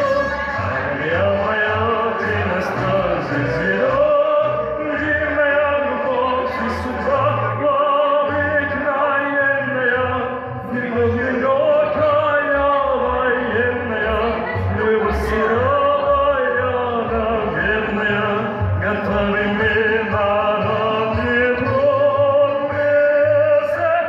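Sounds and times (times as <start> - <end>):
man singing opera-like: 0.0 - 24.0.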